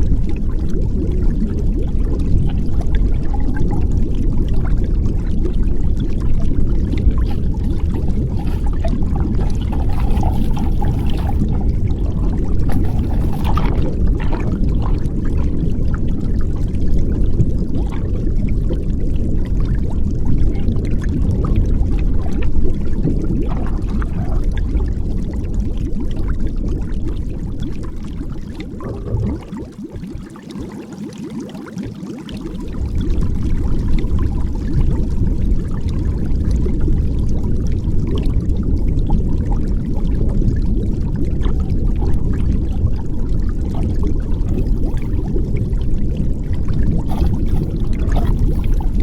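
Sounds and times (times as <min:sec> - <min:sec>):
muffled underwater rumble: 0:00.0 - 0:49.0.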